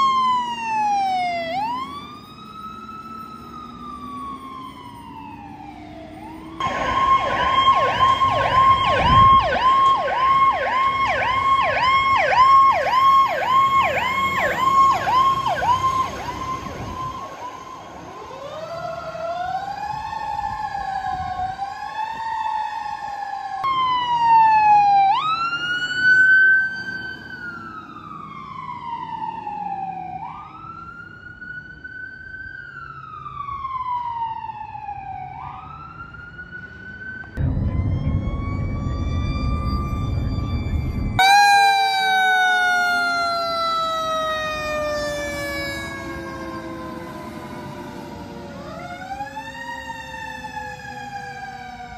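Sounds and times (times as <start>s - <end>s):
siren yelping: 0.0s - 30.8s, 37.0s - 51.9s
siren wailing: 0.0s - 51.9s.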